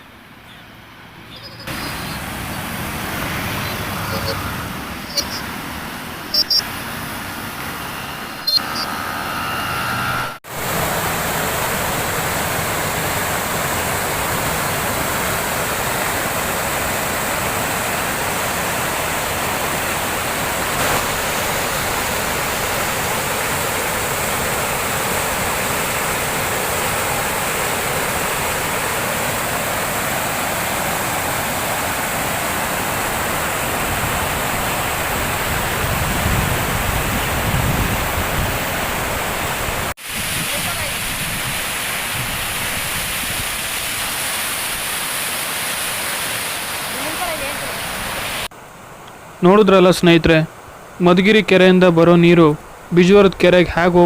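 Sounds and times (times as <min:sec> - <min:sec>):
water rushing down a stream: 0:01.7 - 0:07.4, 0:10.5 - 0:54.0.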